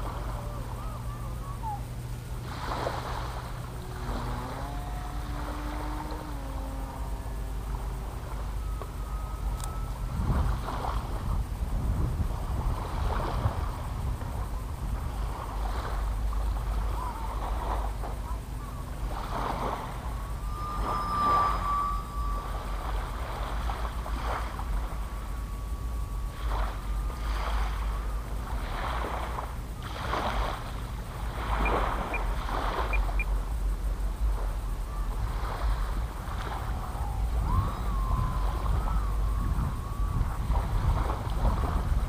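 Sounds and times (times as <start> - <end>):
faint high whine: 0.0 - 42.0
small waves lapping: 0.0 - 42.0
wind buffeting microphone: 0.0 - 42.0.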